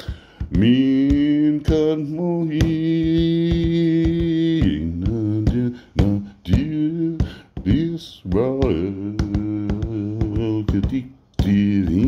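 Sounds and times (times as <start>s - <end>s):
man chanting: 0.5s - 12.0s.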